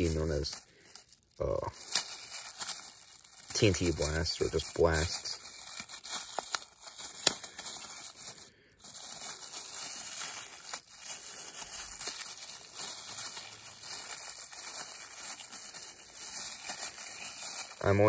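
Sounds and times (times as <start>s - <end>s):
plastic packet crinkling: 0.0s - 18.0s.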